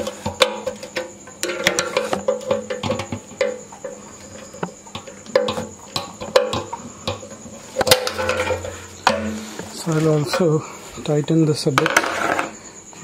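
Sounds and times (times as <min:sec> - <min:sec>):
clicks and knocks of metal handling: 0:00.0 - 0:10.7
crickets chirping: 0:00.0 - 0:13.0.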